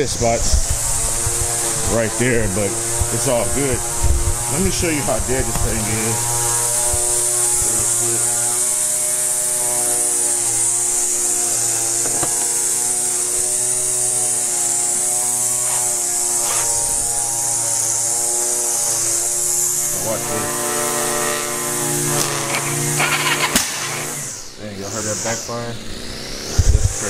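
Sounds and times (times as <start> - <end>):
high hiss: 0.0 - 27.0
steady hum: 0.0 - 27.0.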